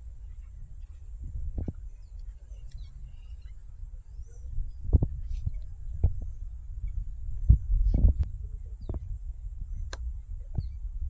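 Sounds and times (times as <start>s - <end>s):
dull low thumps: 0.0s - 11.0s
steady low rumble: 0.0s - 11.0s.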